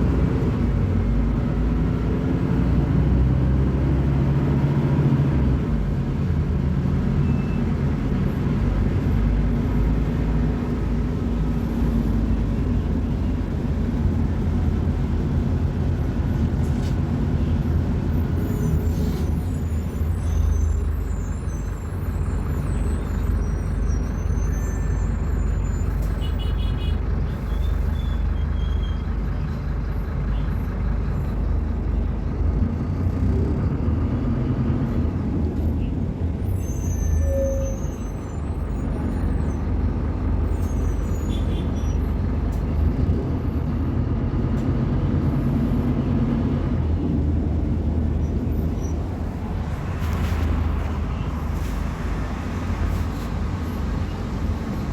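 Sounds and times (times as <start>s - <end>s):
bus diesel engine rumbling: 0.0s - 54.9s.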